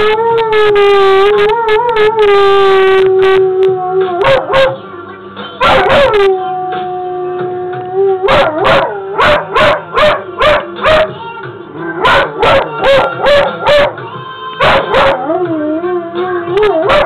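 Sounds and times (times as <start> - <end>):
dog howling and yowling: 0.0 - 4.8, 5.6 - 10.3, 11.9 - 14.0, 14.6 - 17.0.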